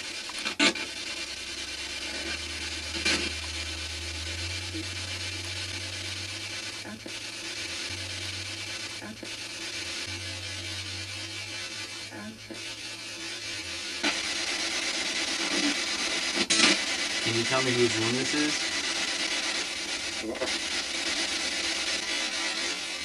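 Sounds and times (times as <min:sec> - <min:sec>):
radio static hiss: 0:00.0 - 0:23.0
short static crackles: 0:00.0 - 0:23.0.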